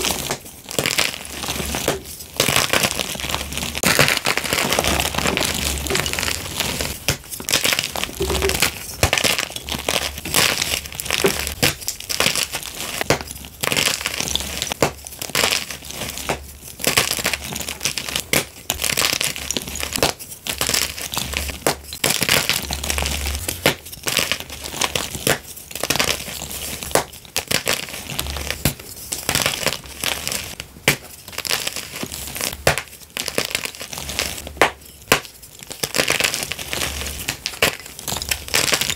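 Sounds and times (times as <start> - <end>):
crumbling chalk crackle: 0.0 - 38.9.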